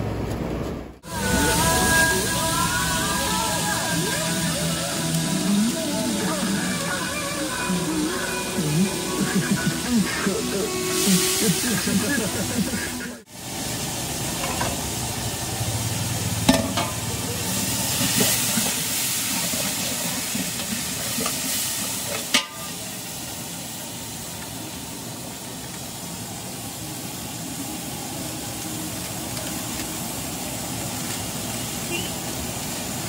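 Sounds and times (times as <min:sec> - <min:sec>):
food hissing over high heat: 0:01.0 - 0:33.0.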